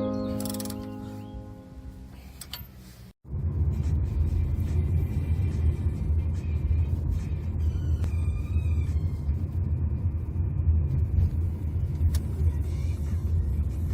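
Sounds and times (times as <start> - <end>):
car rumbling on the move: 0.0 - 13.9
road and tyre noise: 0.0 - 13.9.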